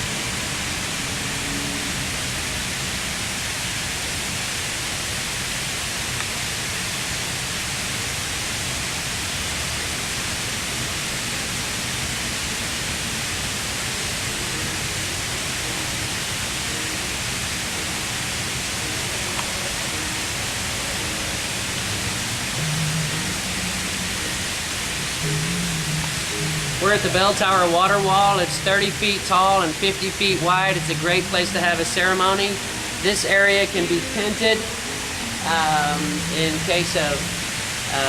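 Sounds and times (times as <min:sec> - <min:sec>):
water cascading down a wall: 0:00.0 - 0:38.0.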